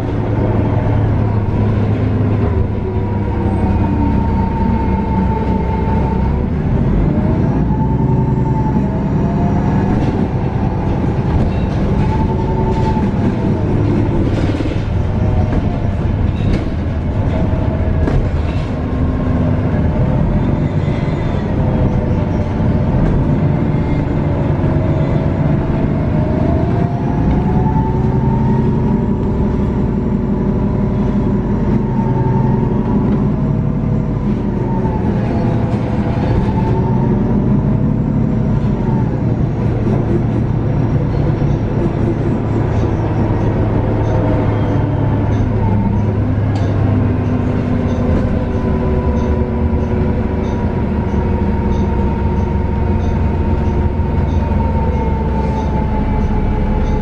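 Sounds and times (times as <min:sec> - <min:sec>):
bus engine rumbling: 0:00.0 - 0:57.0
whining drivetrain: 0:00.0 - 0:57.0.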